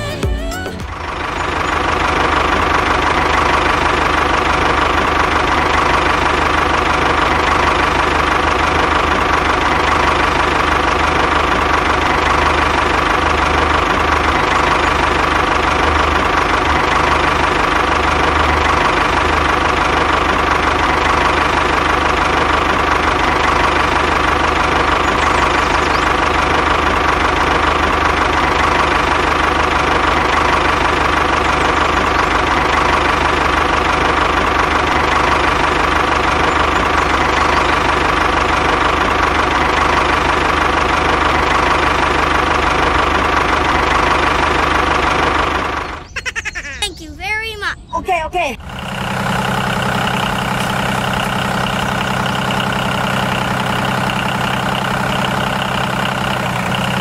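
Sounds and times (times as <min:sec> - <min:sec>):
model tractor engine hum: 0:00.0 - 0:46.5, 0:48.6 - 0:57.0.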